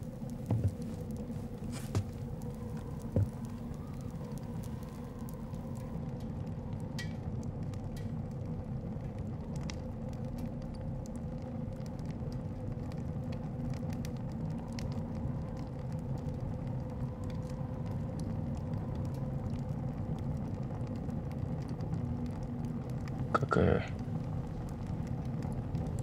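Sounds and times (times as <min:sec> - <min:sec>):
blizzard wind rumbling: 0:00.0 - 0:26.0.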